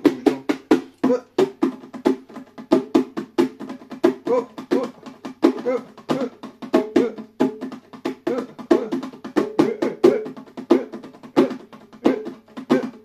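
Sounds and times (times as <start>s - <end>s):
bongos played by hand: 0.0s - 13.0s.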